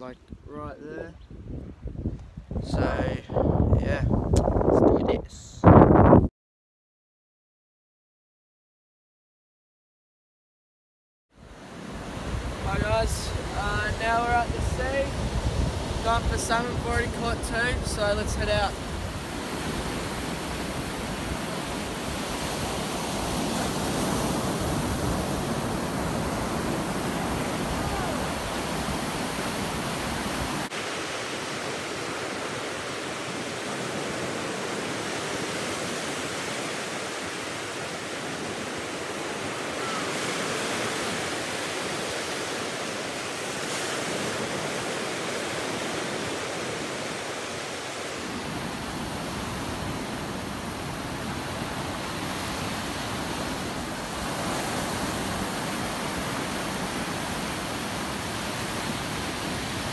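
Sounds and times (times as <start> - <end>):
waves breaking on beach: 11.4 - 59.9.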